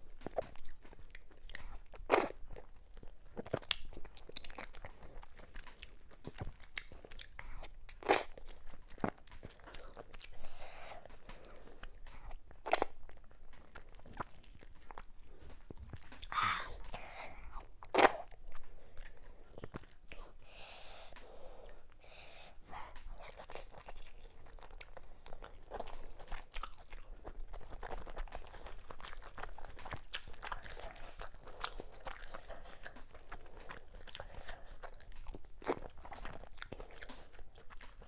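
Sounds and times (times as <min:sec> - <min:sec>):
close-miked chewing: 0:00.0 - 0:38.0.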